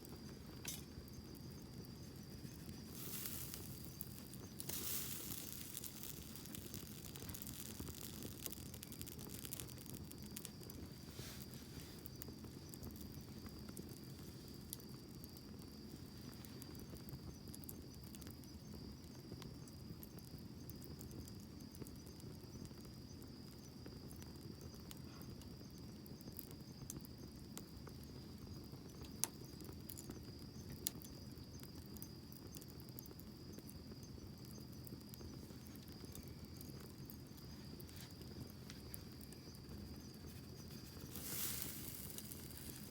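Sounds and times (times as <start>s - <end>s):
bonfire crackling and popping: 0.0s - 42.9s
high-pitched insect trill: 0.0s - 42.9s.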